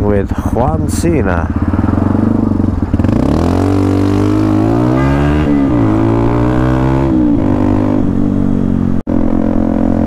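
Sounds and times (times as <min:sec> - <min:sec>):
motorcycle engine accelerating: 0:00.4 - 0:10.0.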